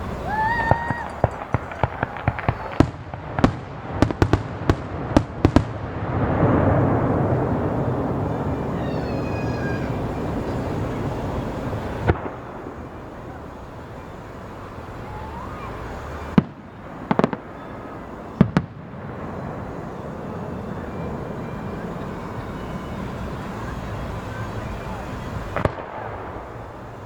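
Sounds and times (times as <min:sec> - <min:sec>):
fireworks bangs: 0:00.0 - 0:27.0
outdoor background hum: 0:00.0 - 0:27.0.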